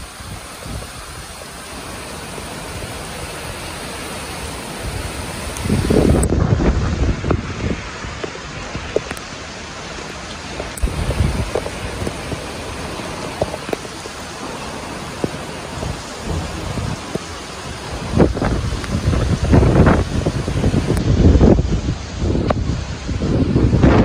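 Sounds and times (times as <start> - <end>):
heavy rain pouring: 0.0 - 24.0
wind gusts on microphone: 0.0 - 24.0.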